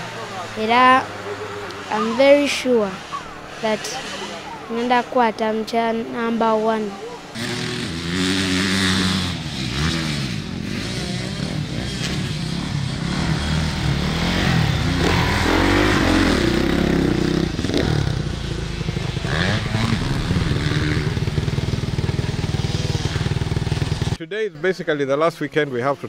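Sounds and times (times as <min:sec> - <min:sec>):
dirt bike engines revving: 0:00.0 - 0:24.2.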